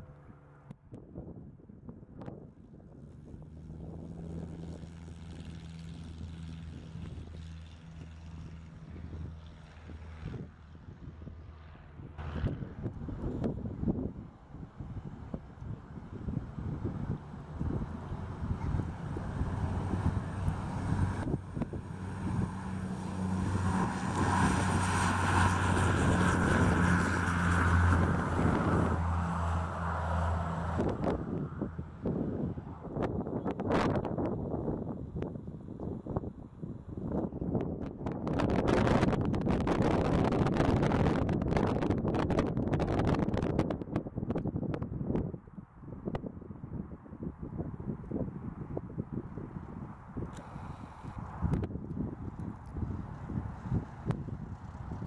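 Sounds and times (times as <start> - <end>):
propeller aircraft engine drone: 0.0 - 55.0
wind buffeting microphone: 0.0 - 55.0.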